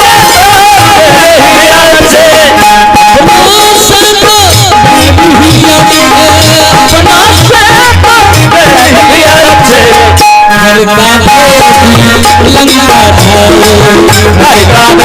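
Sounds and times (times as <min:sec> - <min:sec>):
hand drum beats: 0:00.0 - 0:15.0
wavering melody: 0:00.0 - 0:15.0.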